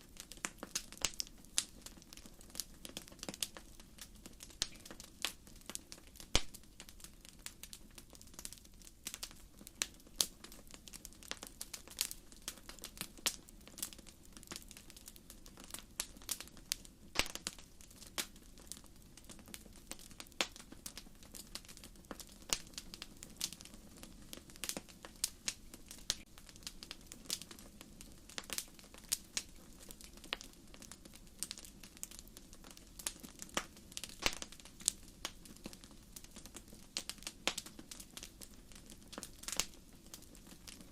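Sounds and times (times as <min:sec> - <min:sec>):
logs crackling and popping: 0:00.0 - 0:40.9.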